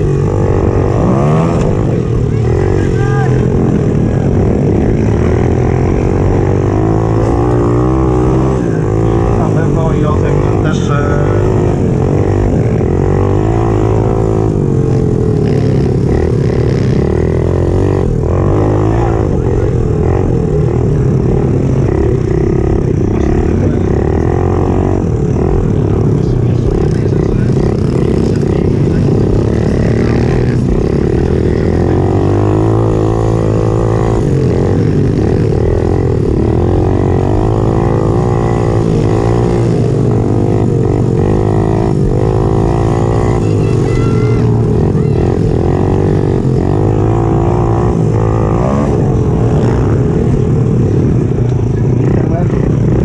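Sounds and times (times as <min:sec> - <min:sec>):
small motorbike engine revving: 0:00.0 - 0:53.0.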